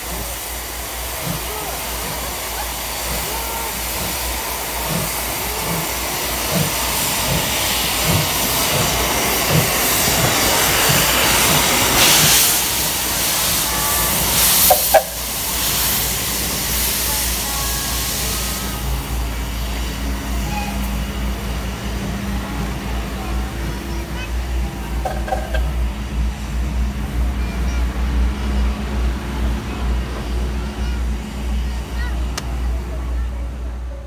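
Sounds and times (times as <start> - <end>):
locomotive exhaust chuffs: 0.0 - 27.4
steam hissing from locomotive: 0.0 - 34.0.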